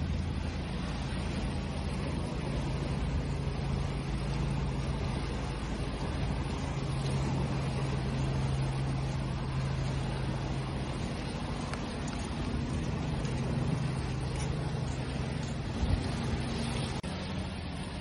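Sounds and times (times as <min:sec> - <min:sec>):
low motor hum: 0:00.0 - 0:18.0
ocean waves washing: 0:00.0 - 0:18.0.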